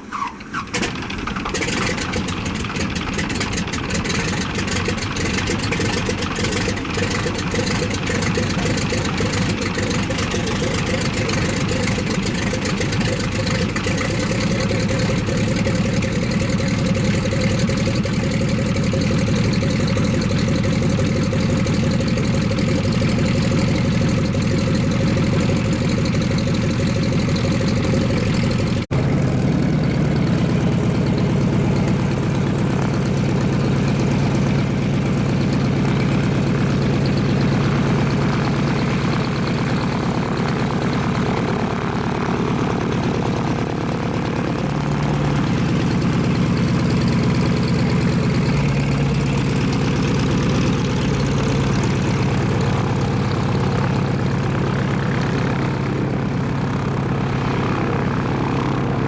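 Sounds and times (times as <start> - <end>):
aircraft engine idling: 0.0 - 59.0.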